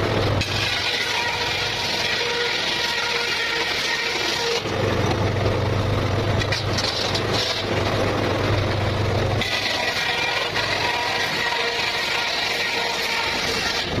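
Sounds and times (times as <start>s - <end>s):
circular saw cutting bamboo: 0.0s - 5.2s, 6.4s - 8.7s, 9.3s - 14.0s.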